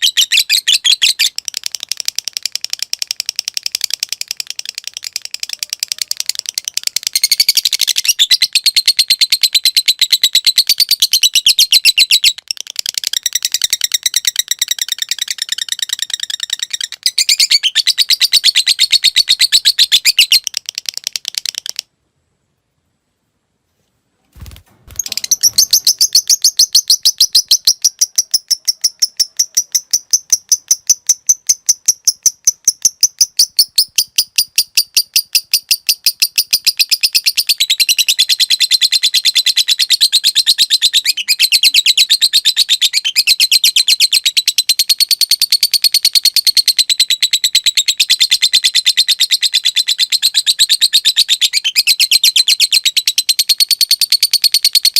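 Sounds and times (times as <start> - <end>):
lovebird chattering trill: 0.0 - 21.8, 25.0 - 54.9.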